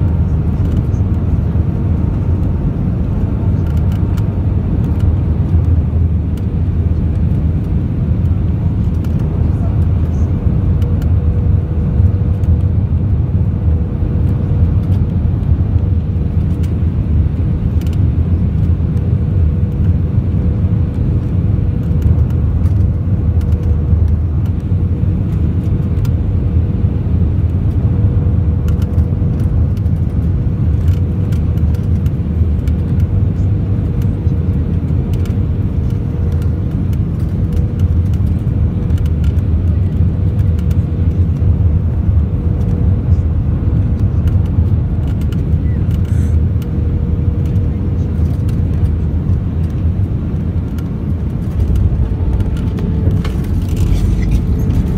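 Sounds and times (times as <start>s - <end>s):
airplane cabin roar: 0.0s - 54.9s.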